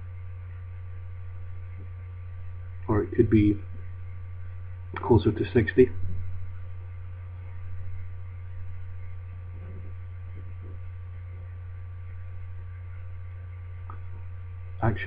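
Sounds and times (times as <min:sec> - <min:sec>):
low electrical hum: 0:00.0 - 0:15.0
faint murmurs: 0:01.5 - 0:15.0.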